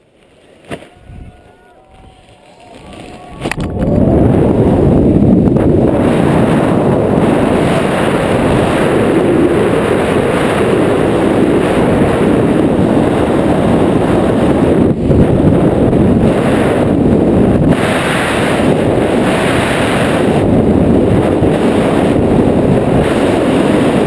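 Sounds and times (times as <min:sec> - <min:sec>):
wind rushing over microphone: 0:00.9 - 0:24.0.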